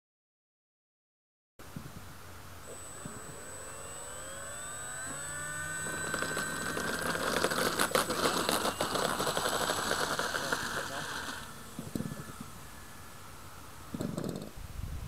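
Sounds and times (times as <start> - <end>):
model plane motor whine: 1.8 - 14.8.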